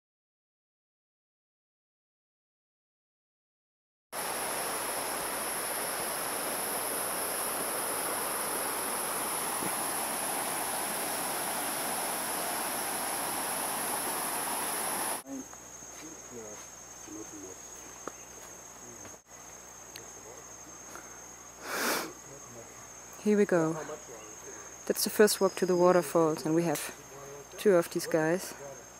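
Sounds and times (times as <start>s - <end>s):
constant hiss: 4.2s - 28.9s
high steady insect note: 4.2s - 28.9s
insect chorus buzzing: 4.2s - 28.9s.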